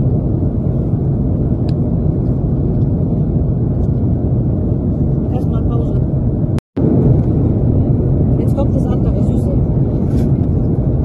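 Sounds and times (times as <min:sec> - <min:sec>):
airliner cabin roar: 0:00.0 - 0:11.0.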